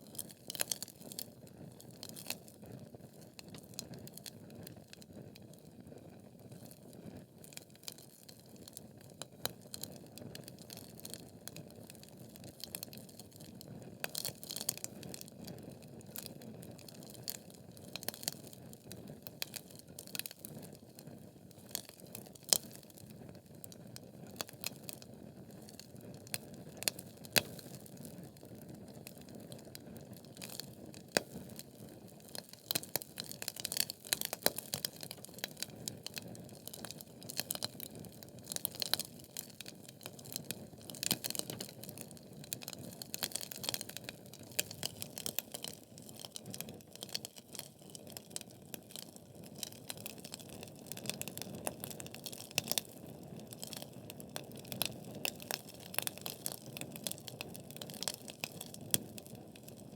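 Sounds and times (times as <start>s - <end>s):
logs crackling and popping: 0.1s - 2.6s, 3.2s - 5.1s, 7.5s - 15.4s, 16.0s - 59.9s.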